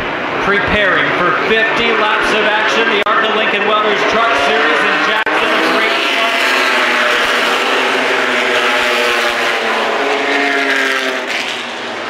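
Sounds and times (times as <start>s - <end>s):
racing truck engines passing: 0.0s - 12.0s.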